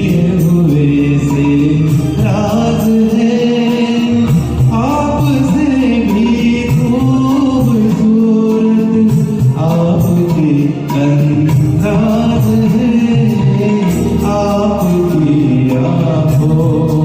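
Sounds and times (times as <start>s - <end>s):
film song with instruments: 0.0s - 17.0s.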